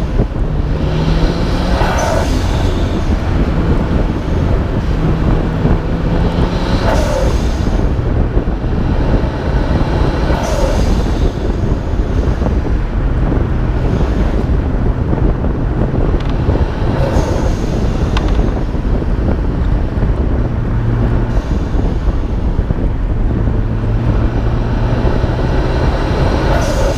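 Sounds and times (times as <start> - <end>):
car engine running: 0.0 - 26.9
wind buffeting microphone: 0.0 - 26.9.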